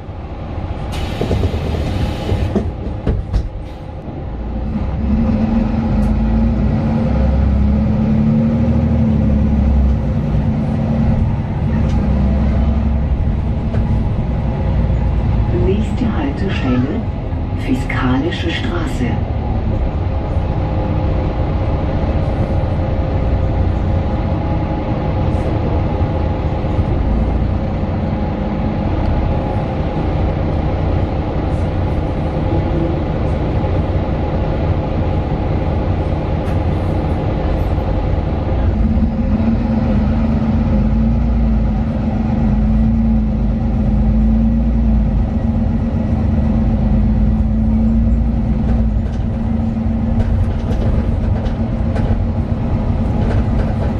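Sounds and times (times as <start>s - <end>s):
bus diesel engine running: 0.0s - 53.9s
road rumble: 0.0s - 53.9s.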